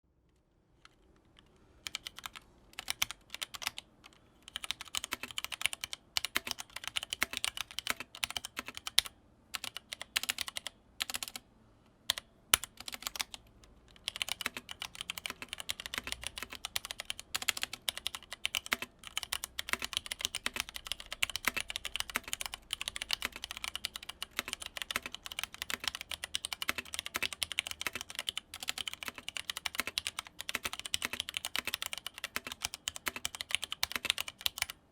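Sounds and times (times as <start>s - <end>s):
keyboard typing clacks: 1.8s - 3.9s, 4.5s - 11.4s, 12.1s - 34.8s.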